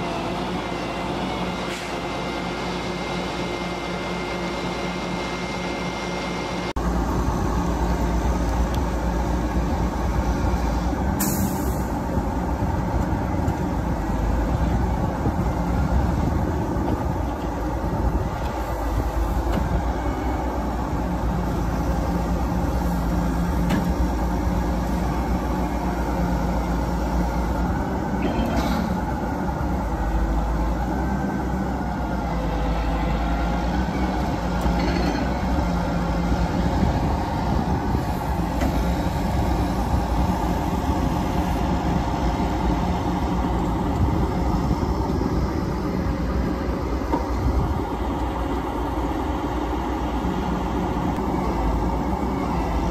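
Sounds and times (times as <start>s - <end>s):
truck diesel engines running: 0.0s - 52.9s.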